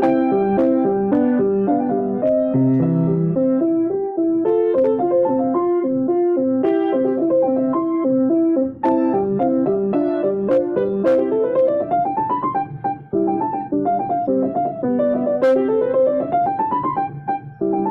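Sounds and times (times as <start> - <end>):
solo piano piece: 0.0 - 17.9.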